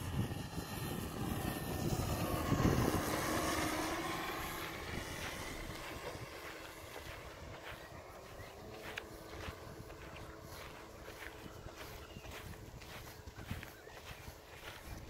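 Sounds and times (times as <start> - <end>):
model plane motor whining: 0.0 - 13.6.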